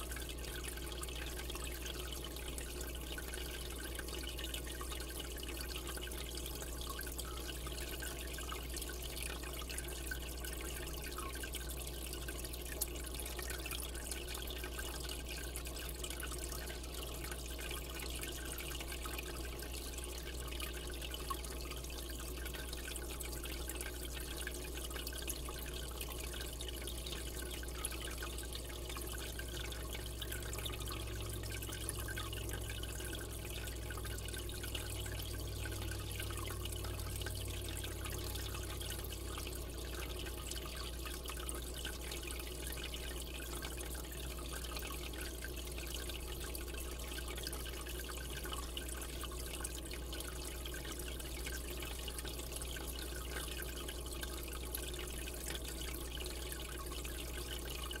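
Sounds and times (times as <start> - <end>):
aquarium water trickling: 0.0 - 58.0
faint water drips: 0.0 - 58.0.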